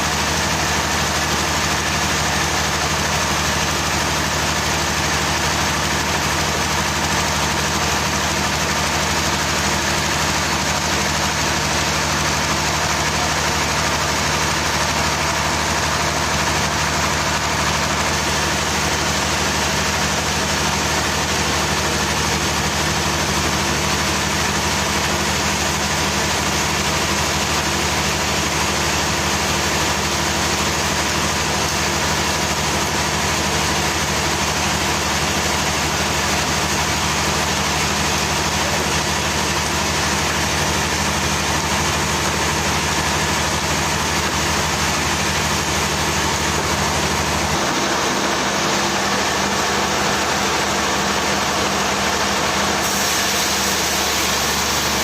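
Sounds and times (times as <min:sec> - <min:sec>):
machine engine idling: 0:00.0 - 0:55.0.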